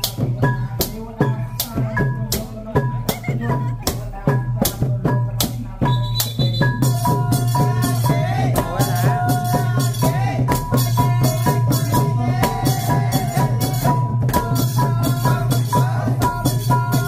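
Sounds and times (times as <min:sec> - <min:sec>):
drum and cymbal strokes: 0:00.0 - 0:17.0.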